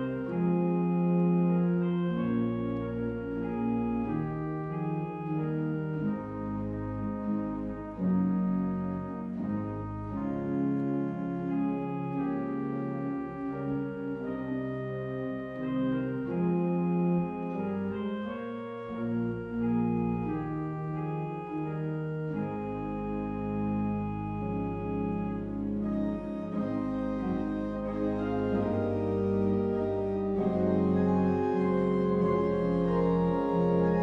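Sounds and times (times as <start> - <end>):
church organ playing a hymn: 0.0 - 34.0.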